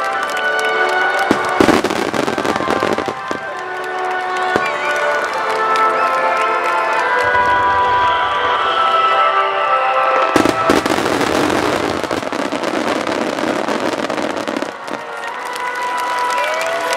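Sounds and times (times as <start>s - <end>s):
fireworks crackling: 0.0s - 16.9s
music playing: 0.0s - 16.9s
fireworks bangs: 1.1s - 6.0s, 7.2s - 16.9s.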